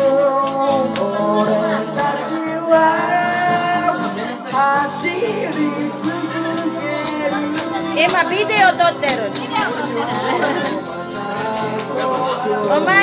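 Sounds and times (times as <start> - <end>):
man singing into a microphone: 0.0 - 8.4, 9.8 - 13.0
karaoke backing track: 0.0 - 13.0.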